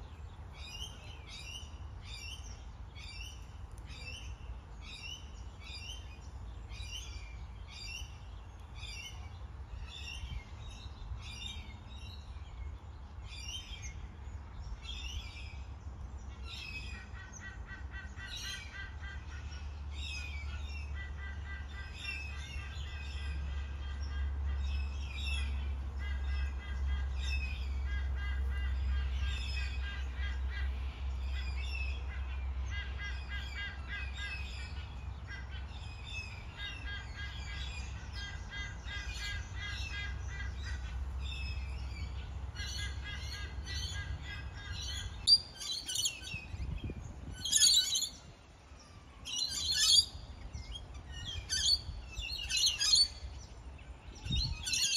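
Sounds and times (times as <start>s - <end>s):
birds chirping and calling: 0.0s - 54.9s
low outdoor rumble: 0.0s - 54.9s.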